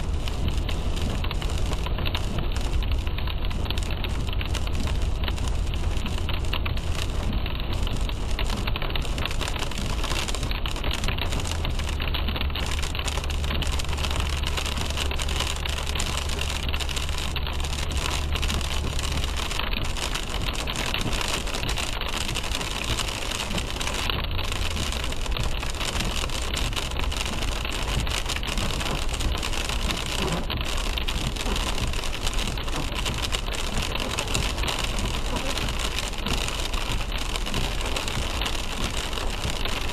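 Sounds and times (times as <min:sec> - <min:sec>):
low engine and road hum: 0:00.0 - 0:39.9
rain on a car: 0:00.0 - 0:39.9
tyres hissing on wet road: 0:00.0 - 0:39.9.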